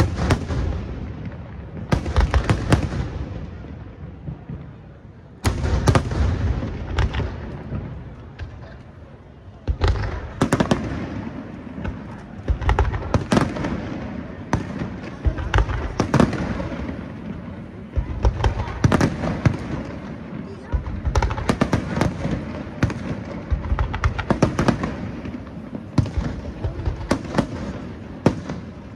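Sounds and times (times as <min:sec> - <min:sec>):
fireworks booming: 0:00.0 - 0:28.9.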